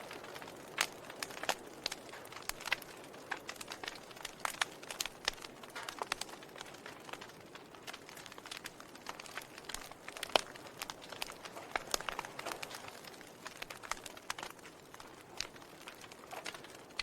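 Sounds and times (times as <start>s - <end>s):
soft steady hiss: 0.0s - 17.0s
wood fire crackling: 0.0s - 17.0s.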